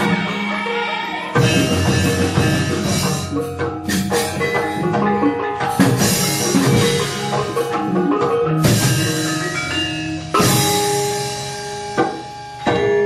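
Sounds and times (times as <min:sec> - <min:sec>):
drumming: 0:00.0 - 0:13.0
metallophones ringing: 0:00.0 - 0:13.0.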